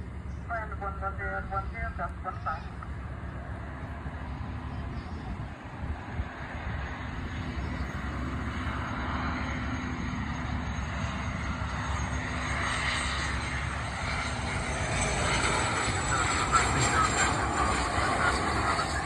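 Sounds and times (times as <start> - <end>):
high jet engine whine: 0.0 - 19.0
jet engine rumble: 0.0 - 19.0.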